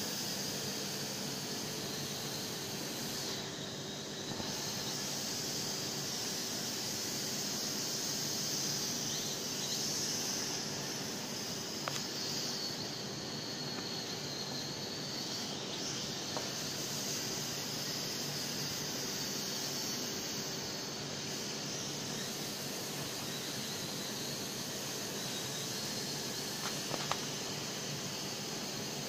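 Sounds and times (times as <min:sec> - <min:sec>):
toy quadcopter motors whining: 0:01.1 - 0:29.0.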